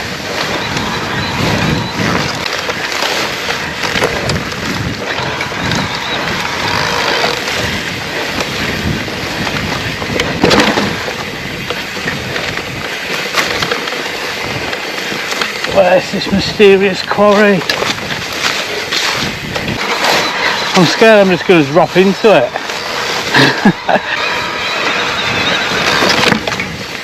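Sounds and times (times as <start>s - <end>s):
bike rattling: 0.0s - 27.0s
tyres rumbling on rough ground: 0.0s - 27.0s.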